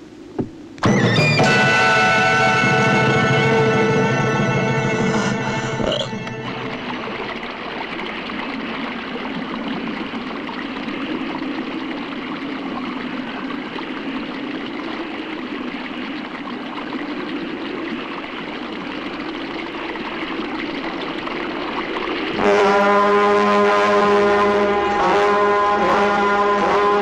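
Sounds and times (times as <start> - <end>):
stream water rushing: 1.6 - 27.0.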